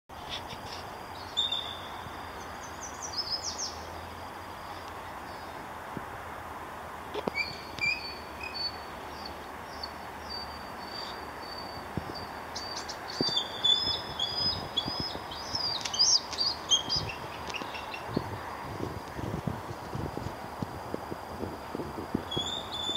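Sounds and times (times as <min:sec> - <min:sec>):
outdoor background hiss: 0:00.1 - 0:22.9.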